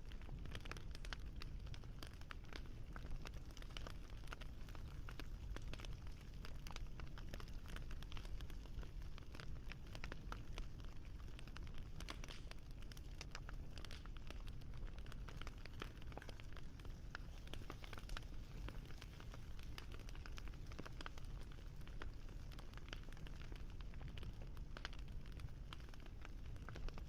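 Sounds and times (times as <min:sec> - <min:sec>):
low rumble of burning: 0:00.0 - 0:27.0
wood fire crackling: 0:00.0 - 0:27.0.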